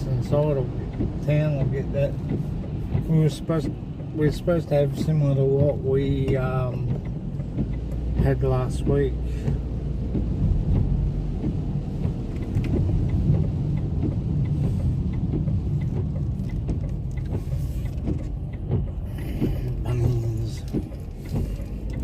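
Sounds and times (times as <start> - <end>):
car engine and road rumble: 0.0 - 22.0
light ticks and knocks: 0.1 - 22.0.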